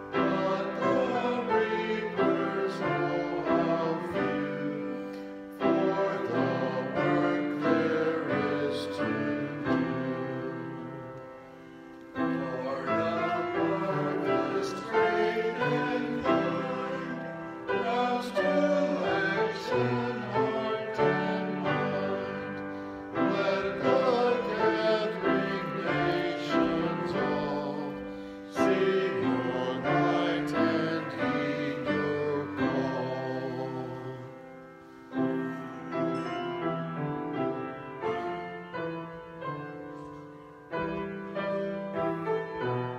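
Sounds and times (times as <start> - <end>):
slow piano chords: 0.0 - 42.9.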